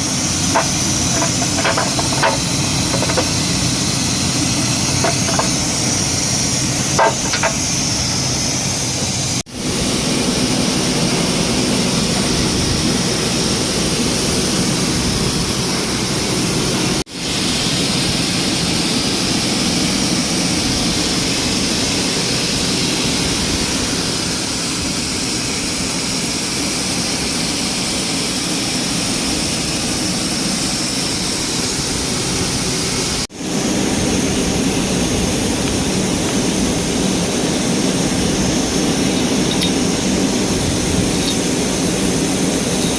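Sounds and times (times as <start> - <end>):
engine running: 0.0 - 24.6, 29.6 - 42.9.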